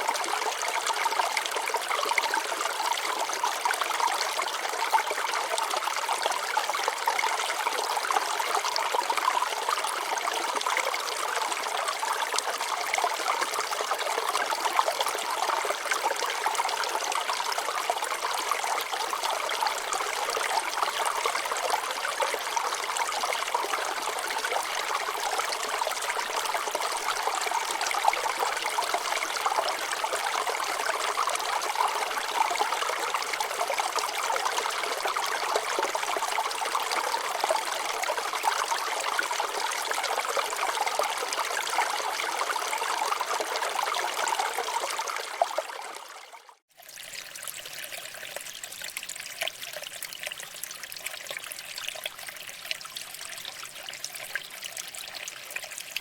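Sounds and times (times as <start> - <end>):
stream babbling over rocks: 0.0 - 46.2.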